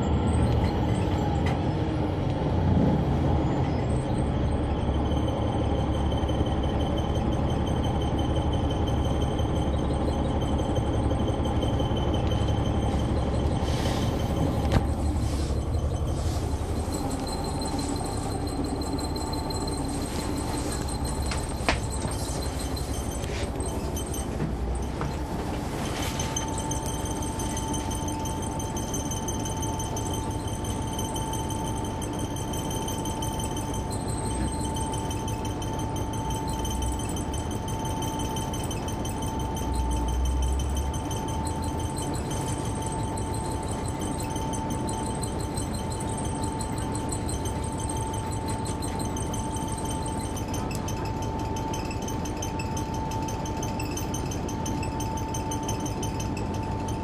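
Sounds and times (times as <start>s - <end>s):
bus engine low rumble: 0.0s - 57.0s
high whine: 3.8s - 57.0s.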